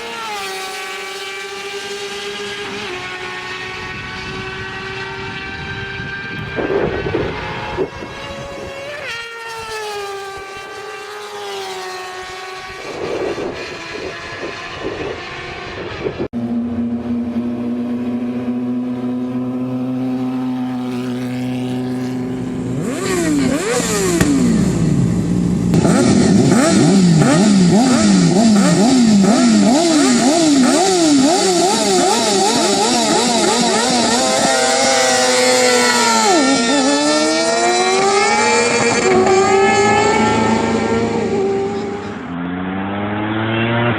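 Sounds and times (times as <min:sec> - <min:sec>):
motorcycle engine revving: 0:00.0 - 0:43.9
motorcycle passing by: 0:00.0 - 0:43.9.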